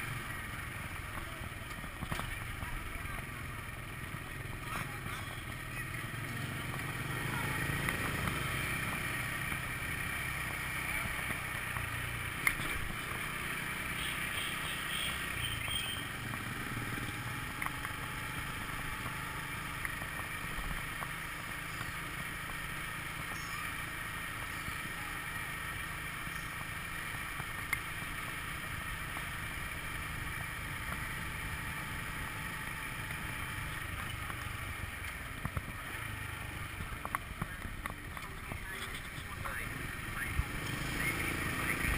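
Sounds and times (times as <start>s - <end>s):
scooter engine running: 0.0s - 41.9s
street traffic: 0.0s - 41.9s.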